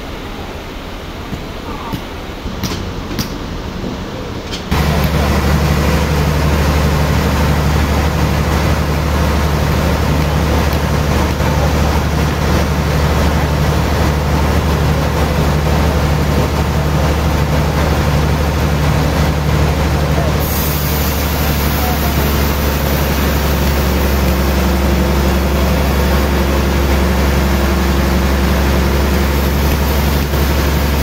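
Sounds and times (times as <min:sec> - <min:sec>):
sawmill drone with hiss: 0:00.0 - 0:31.0.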